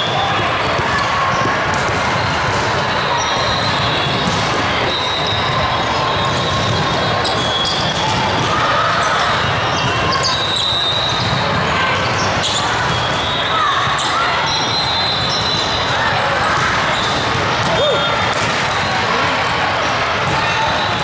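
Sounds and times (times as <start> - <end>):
volleyballs hit and bouncing: 0.0 - 21.0.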